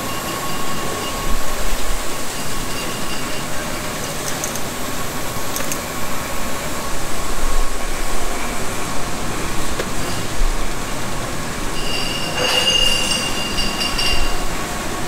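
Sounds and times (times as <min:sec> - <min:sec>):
machinery with high whine: 0:00.0 - 0:15.0.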